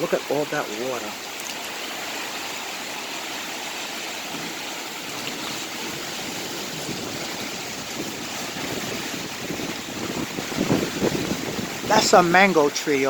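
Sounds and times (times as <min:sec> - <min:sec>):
heavy rain: 0:00.0 - 0:13.0
storm water rushing: 0:00.0 - 0:13.0.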